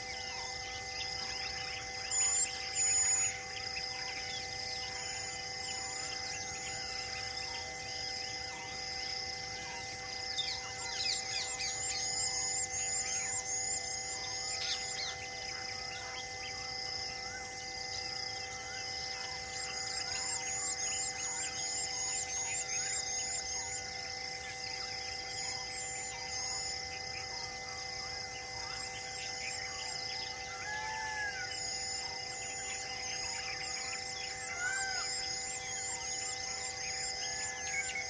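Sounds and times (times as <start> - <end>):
birds chirping and calling: 0.0 - 7.7, 9.6 - 17.4, 18.4 - 23.8, 24.6 - 38.0
pulsing insect drone: 0.0 - 38.0.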